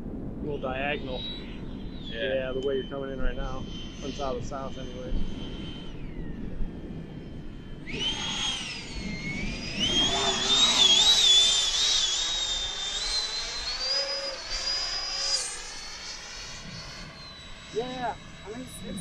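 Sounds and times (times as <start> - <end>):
model jet fan whine: 0.0 - 19.0
wind rumble on microphone: 0.0 - 19.0.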